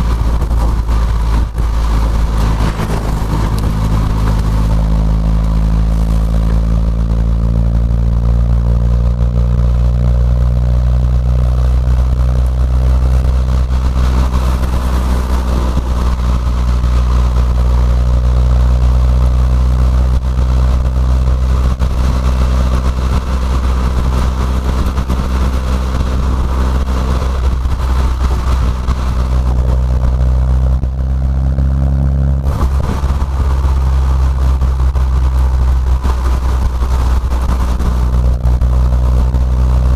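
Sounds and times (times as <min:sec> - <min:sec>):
car exhaust drone from inside cabin: 0:00.0 - 0:39.9.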